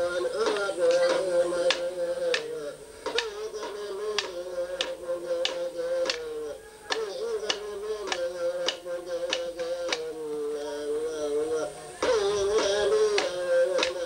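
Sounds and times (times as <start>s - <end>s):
man chanting in wavering notes: 0.0s - 14.0s.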